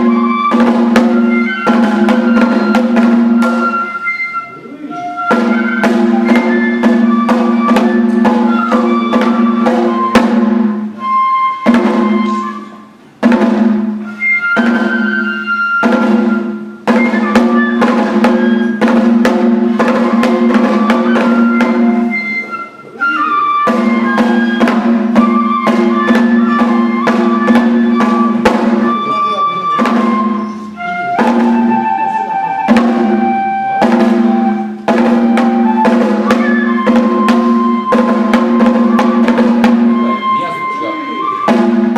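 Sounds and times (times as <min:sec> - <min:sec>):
bamboo flute melody: 0:00.0 - 0:41.9
drum strikes: 0:00.0 - 0:41.9.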